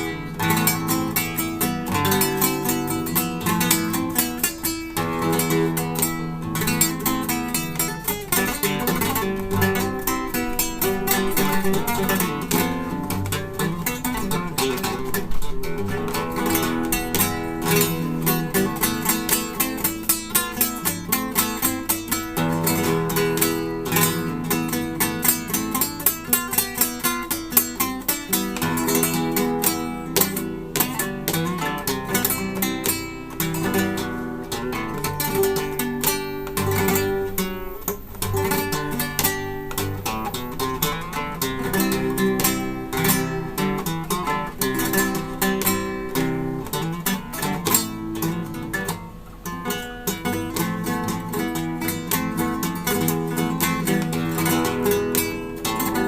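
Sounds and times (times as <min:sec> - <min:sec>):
flamenco acoustic guitar: 0:00.0 - 0:56.0.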